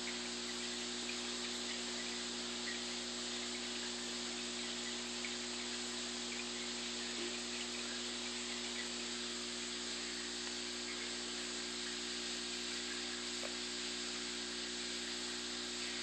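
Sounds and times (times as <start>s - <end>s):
low electrical hum: 0.0s - 16.0s
steady hiss: 0.0s - 16.0s.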